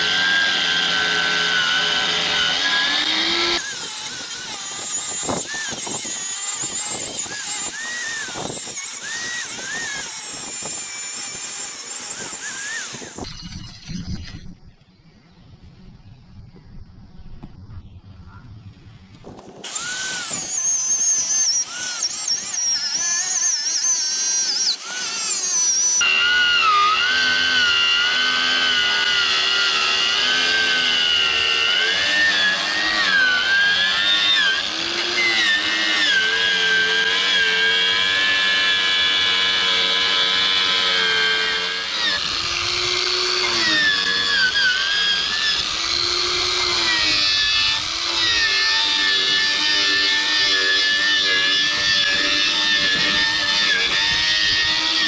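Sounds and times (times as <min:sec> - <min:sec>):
power tool whining: 0:00.0 - 0:14.8, 0:19.2 - 0:55.0.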